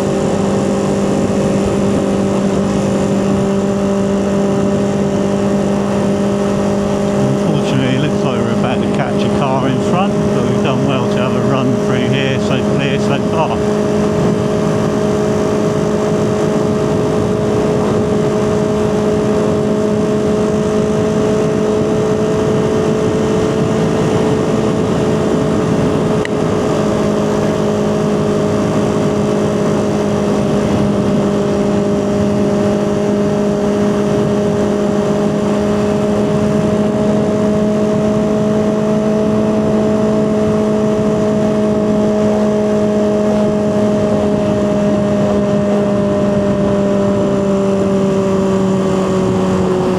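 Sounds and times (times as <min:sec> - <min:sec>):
motorcycle engine droning: 0:00.0 - 0:49.9.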